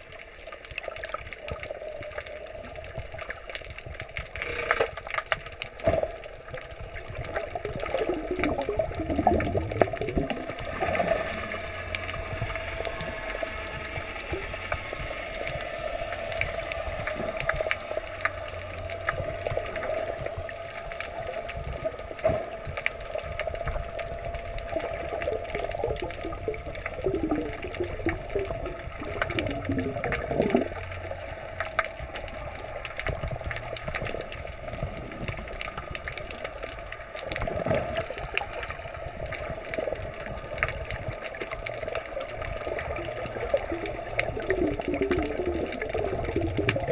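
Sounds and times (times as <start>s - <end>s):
bubbling gurgles: 0.0s - 46.9s
underwater boat engine hum: 0.0s - 46.9s.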